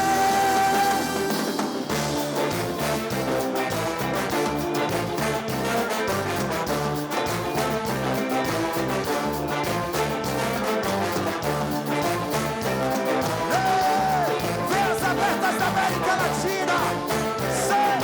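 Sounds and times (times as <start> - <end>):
live band with horns: 0.0 - 18.0.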